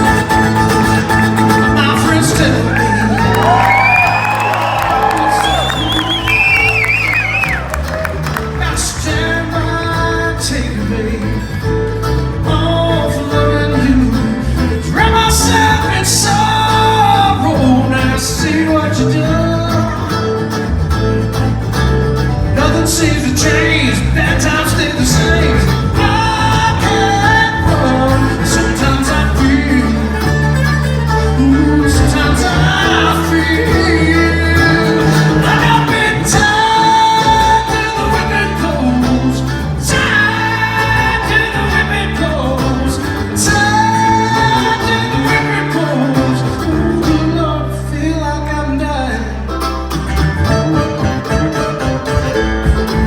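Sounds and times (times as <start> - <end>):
bass line: 0.0 - 53.0
bluegrass string band playing: 0.0 - 53.0.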